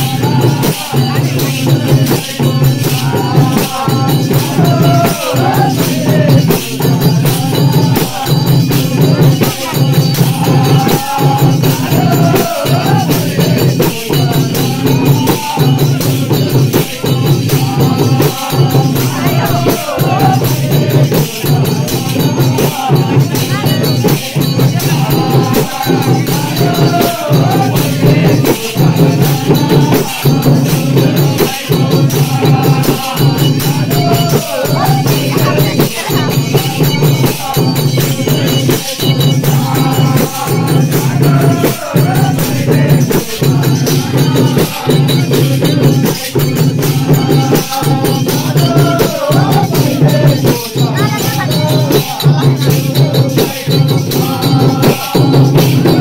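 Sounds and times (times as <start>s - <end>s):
folk song with steady beat: 0.0s - 56.0s.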